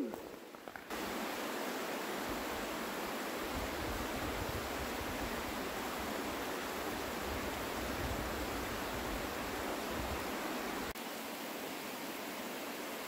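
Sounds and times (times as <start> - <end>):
stream flowing over rocks: 0.9 - 13.0.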